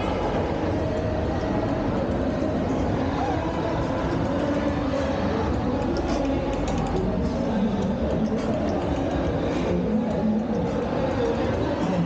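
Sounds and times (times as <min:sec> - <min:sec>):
crowd voices overlapping: 0:00.0 - 0:12.0.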